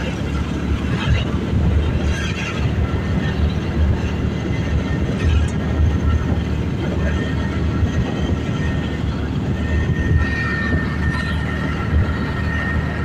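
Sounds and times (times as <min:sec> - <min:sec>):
passing traffic: 0:00.0 - 0:13.0
wind on microphone: 0:00.0 - 0:13.0.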